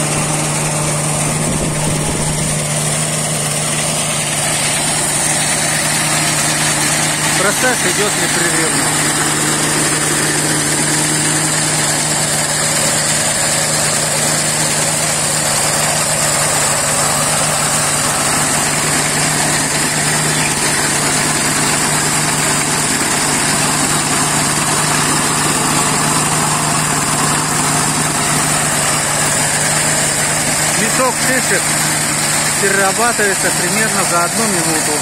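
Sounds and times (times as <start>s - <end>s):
engine hum: 0.0s - 35.0s
machine crushing cones: 0.0s - 35.0s.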